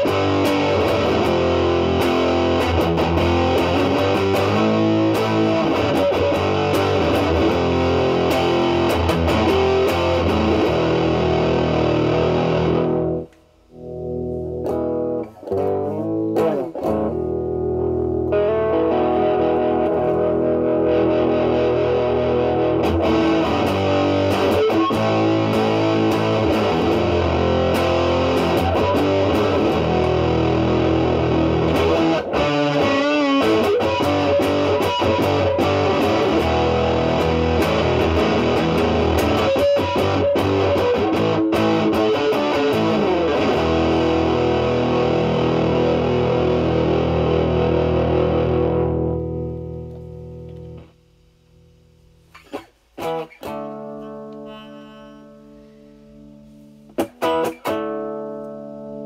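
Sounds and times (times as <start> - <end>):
distorted electric guitar playing: 0.0 - 59.0.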